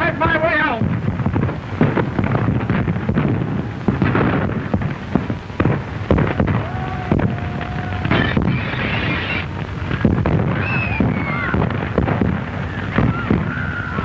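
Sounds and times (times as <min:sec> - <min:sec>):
fire crackling and knocking: 0:00.0 - 0:14.0
hissy background: 0:00.0 - 0:14.0.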